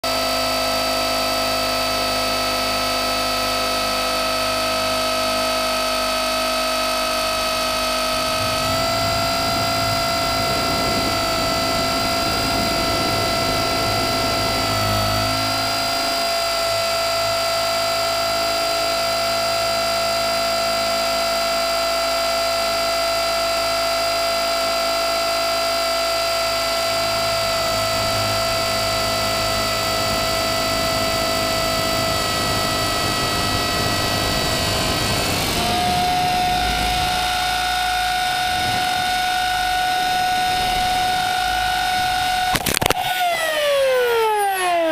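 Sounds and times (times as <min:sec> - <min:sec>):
electric motor high whine: 0:00.0 - 0:44.9
helicopter rotor noise: 0:00.1 - 0:44.9.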